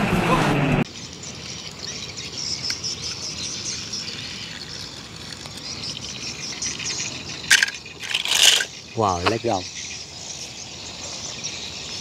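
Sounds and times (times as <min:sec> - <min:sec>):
birds chirping: 0:00.9 - 0:12.0
insects chirping: 0:00.9 - 0:12.0.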